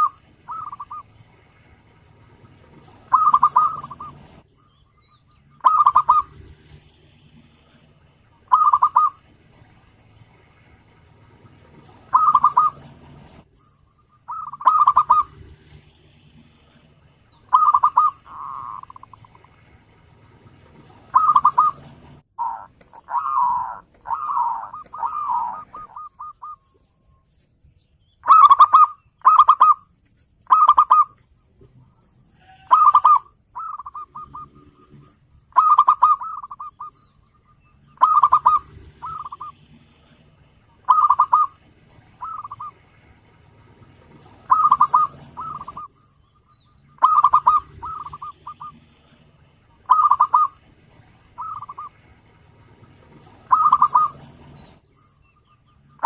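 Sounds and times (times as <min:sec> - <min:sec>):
dove cooing with trill: 0:00.0 - 0:01.3, 0:02.4 - 0:06.8, 0:08.3 - 0:09.7, 0:11.5 - 0:15.9, 0:16.7 - 0:19.6, 0:20.5 - 0:26.9, 0:28.2 - 0:46.1, 0:46.8 - 0:55.0.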